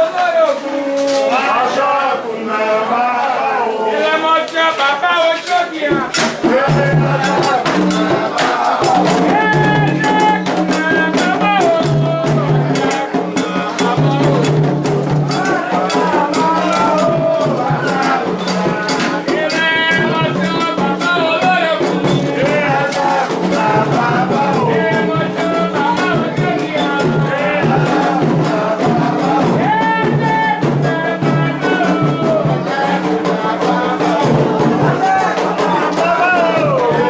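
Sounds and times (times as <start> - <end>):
voices singing a chant: 0.0 - 37.0
hand drumming: 5.9 - 37.0.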